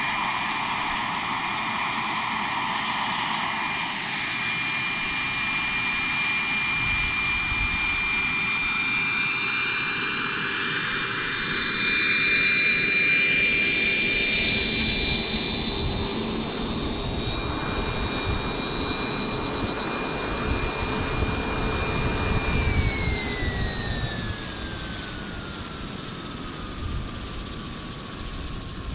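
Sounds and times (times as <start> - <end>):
gas turbine whine: 0.0 - 28.9
helicopter rotor noise: 0.0 - 28.9.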